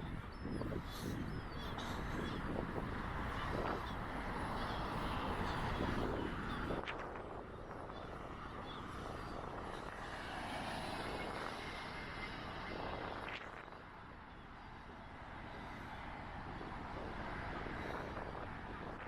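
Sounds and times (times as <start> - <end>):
wind buffeting microphone: 0.0 - 14.2, 14.8 - 19.0.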